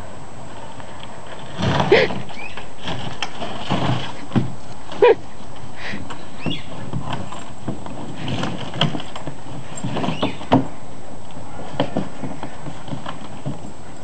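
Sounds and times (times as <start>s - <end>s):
plastic pool scraping on grass: 0.4s - 10.8s, 11.6s - 13.7s.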